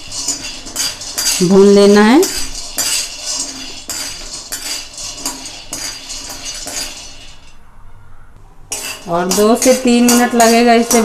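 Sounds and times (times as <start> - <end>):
peanuts rattling in a pan: 0.0 - 7.6, 8.7 - 11.0
steel ladle scraping a pan: 0.0 - 7.7, 8.7 - 11.0.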